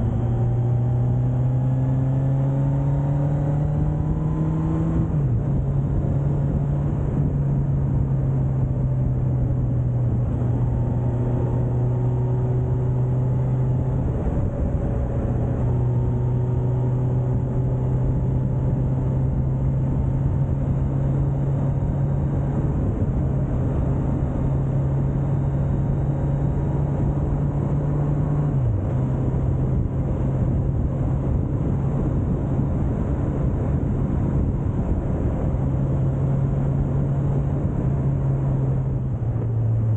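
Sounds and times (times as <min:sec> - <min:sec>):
rushing wind noise: 0:00.0 - 0:39.9.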